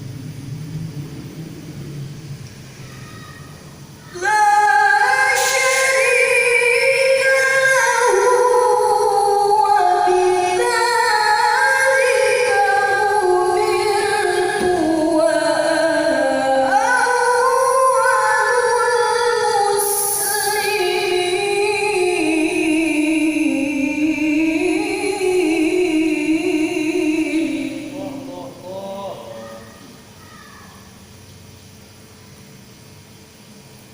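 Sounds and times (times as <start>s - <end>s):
woman reciting melodically: 2.7s - 31.1s.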